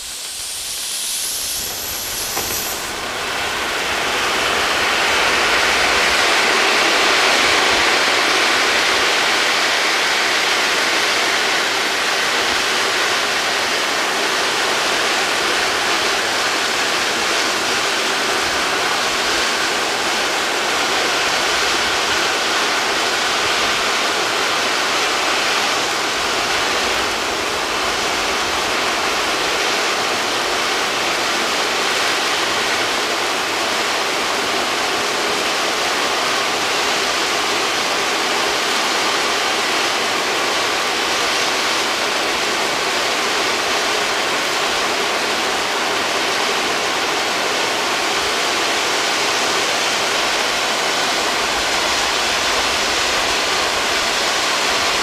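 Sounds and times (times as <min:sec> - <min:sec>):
firework fountains hissing: 0:00.0 - 0:55.0.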